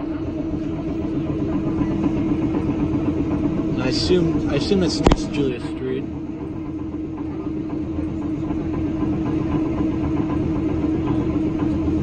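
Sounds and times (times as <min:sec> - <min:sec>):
electrical hum: 0:00.0 - 0:12.0
streetcar low rumble: 0:00.0 - 0:12.0.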